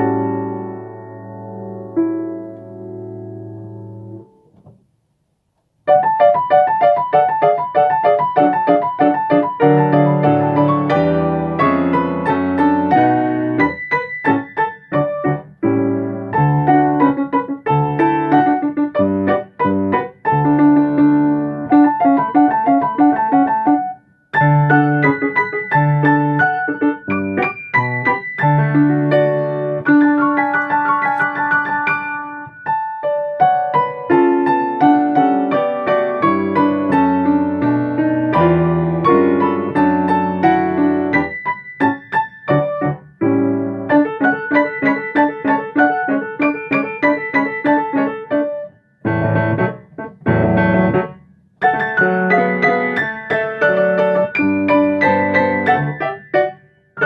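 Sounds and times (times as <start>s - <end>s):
piano duet melody: 0.0s - 4.8s, 5.8s - 57.0s.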